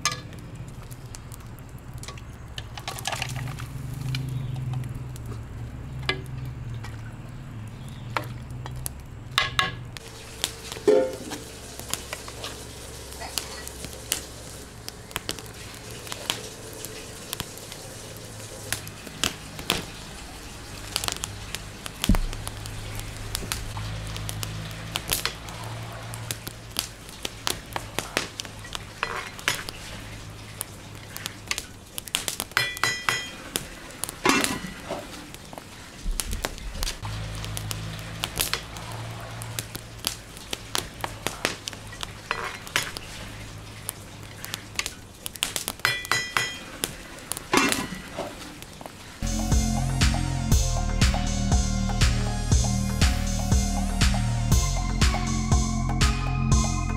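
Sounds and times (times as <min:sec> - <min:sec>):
wood fire crackling: 0:00.0 - 0:55.6.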